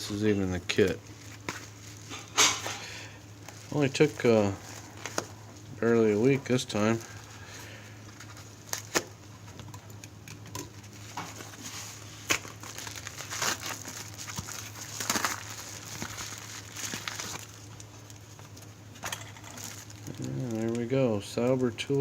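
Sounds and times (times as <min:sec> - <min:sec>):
faint steady low hum: 0:00.0 - 0:22.0
packaging crinkling and tearing: 0:00.7 - 0:22.0.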